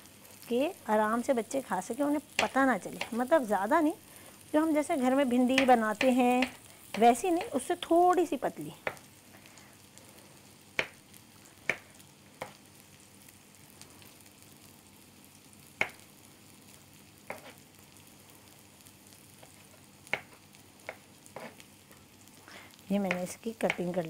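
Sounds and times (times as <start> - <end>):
onions sizzling in frying pan: 0.0 - 24.0.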